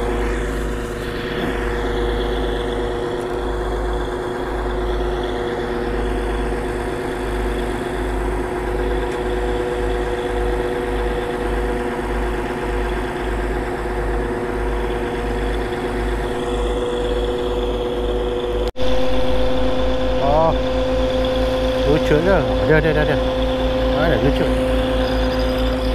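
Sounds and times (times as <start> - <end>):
machine engine humming and throbbing: 0.0 - 25.9.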